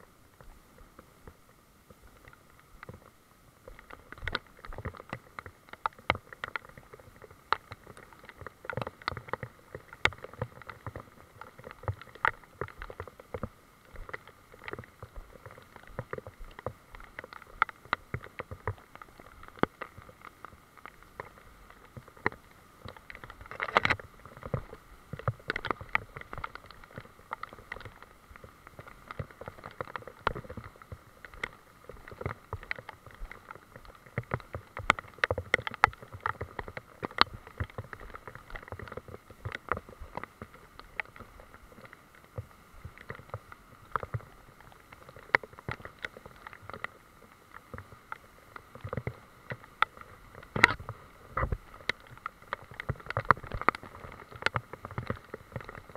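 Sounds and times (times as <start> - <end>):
rain pattering on leaves: 0.0 - 55.9.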